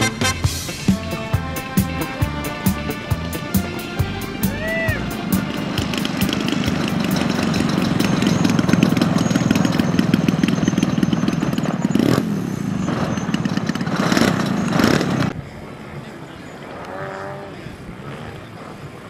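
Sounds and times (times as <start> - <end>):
model airplane engine running: 0.8 - 19.0.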